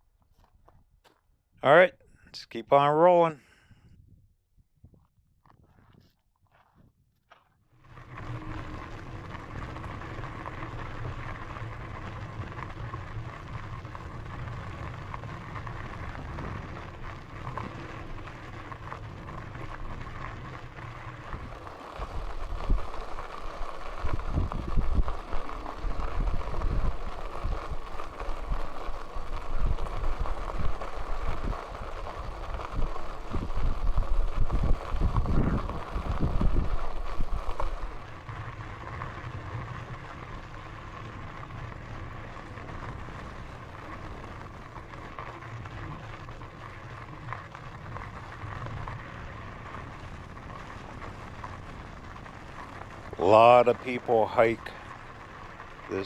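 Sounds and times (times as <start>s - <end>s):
bike tyres rolling on dirt: 0.0s - 2.2s, 4.8s - 56.0s
wind buffeting microphone: 3.7s - 6.1s, 8.1s - 56.0s.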